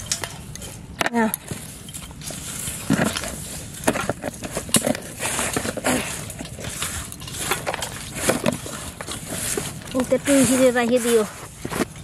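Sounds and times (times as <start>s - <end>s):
hand mixing dry bait in steel bowl: 0.0s - 12.0s.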